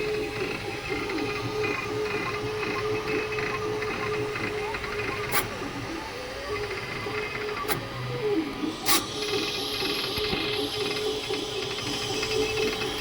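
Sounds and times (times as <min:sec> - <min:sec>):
printer motors humming: 0:00.0 - 0:13.0.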